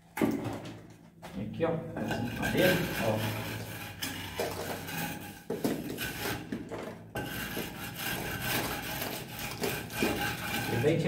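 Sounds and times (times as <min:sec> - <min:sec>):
wood scraping mortar: 0:02.0 - 0:11.0.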